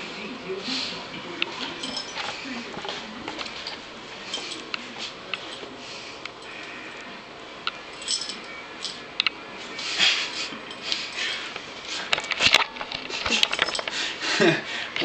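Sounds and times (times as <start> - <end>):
rustling and handling noises: 1.4 - 7.0, 7.7 - 14.2.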